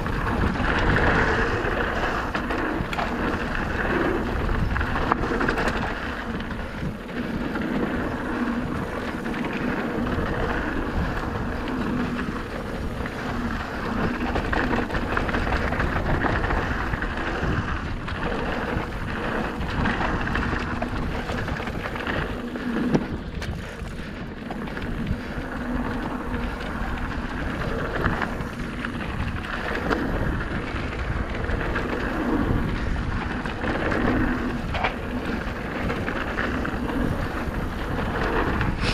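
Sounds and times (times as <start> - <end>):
bike knocks and rattles: 0.0 - 38.9
tyres rolling over loose dirt: 0.0 - 38.9
wind rush on microphone: 0.0 - 38.9.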